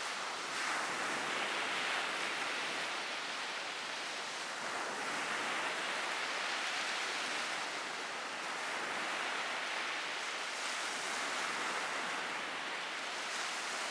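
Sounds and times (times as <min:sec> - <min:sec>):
small waves breaking on beach: 0:00.0 - 0:13.9.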